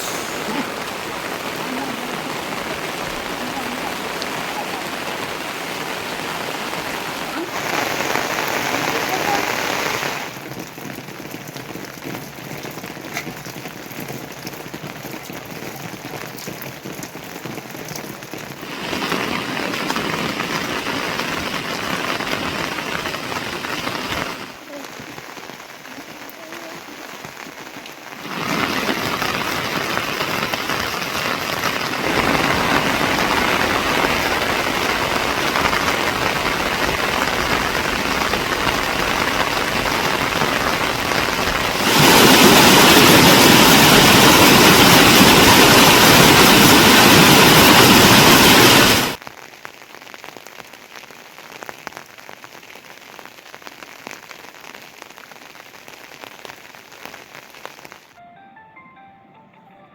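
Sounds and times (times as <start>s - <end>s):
heavy rain hissing: 0.0s - 11.6s, 13.6s - 58.1s.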